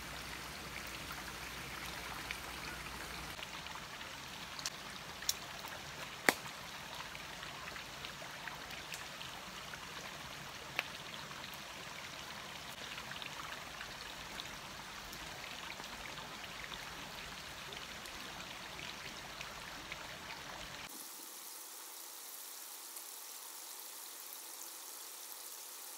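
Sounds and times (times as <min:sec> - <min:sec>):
stream cascading over rocks: 0:00.0 - 0:25.9.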